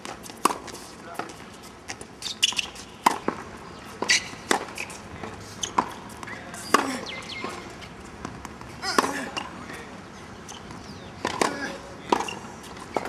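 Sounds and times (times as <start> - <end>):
tennis balls bouncing on hard court: 0.0 - 13.0
tennis balls struck by racquets: 0.0 - 13.0.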